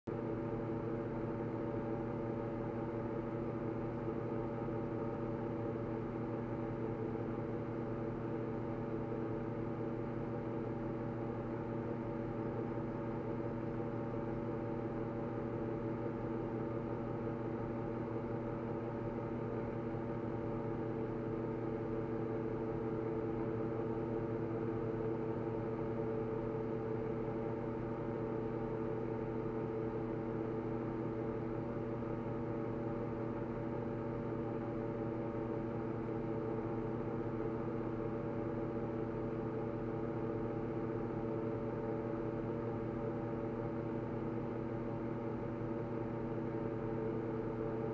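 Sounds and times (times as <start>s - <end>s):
steady mechanical hum: 0.1s - 47.9s.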